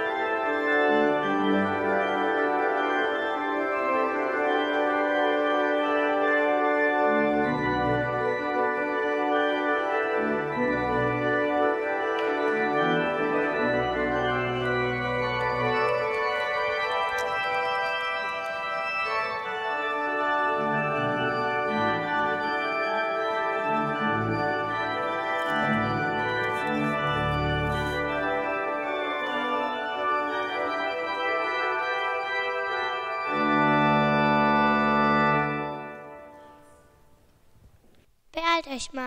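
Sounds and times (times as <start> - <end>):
church organ chords: 0.0 - 37.0.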